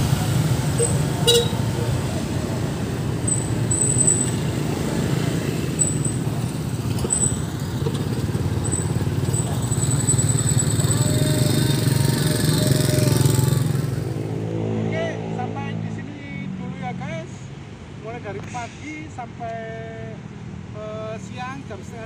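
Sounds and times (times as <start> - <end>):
traffic rumbling past: 0.0 - 19.3.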